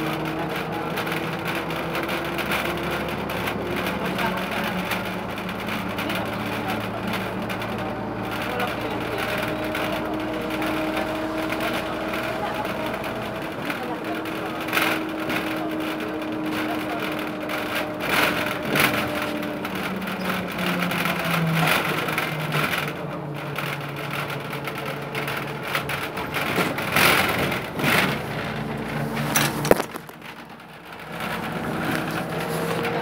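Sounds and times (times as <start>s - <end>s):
diesel bus engine drone: 0.0s - 33.0s.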